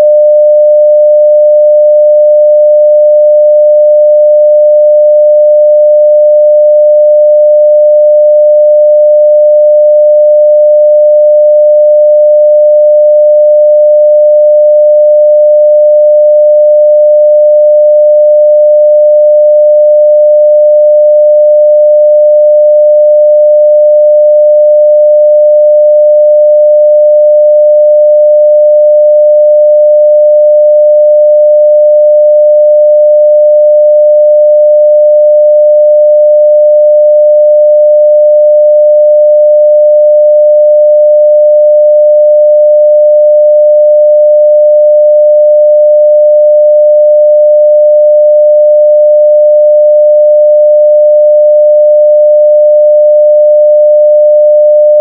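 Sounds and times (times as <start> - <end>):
sine-wave test tone: 0.0 - 55.0.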